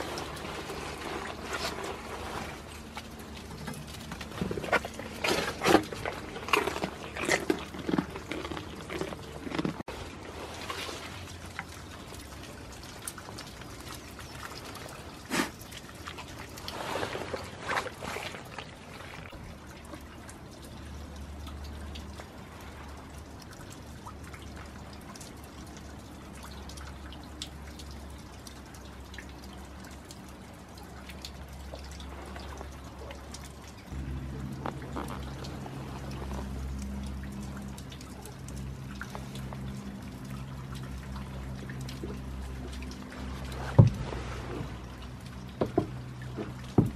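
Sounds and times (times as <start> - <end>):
rain pattering and dripping: 0.0 - 46.9.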